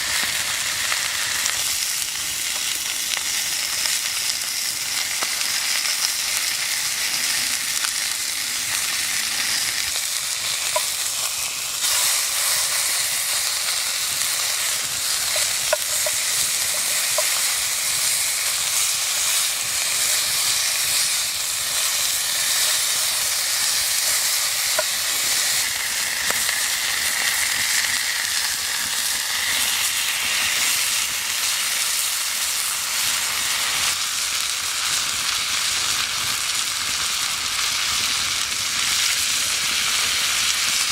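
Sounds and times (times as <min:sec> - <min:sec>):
meat sizzling: 0:00.0 - 0:40.9.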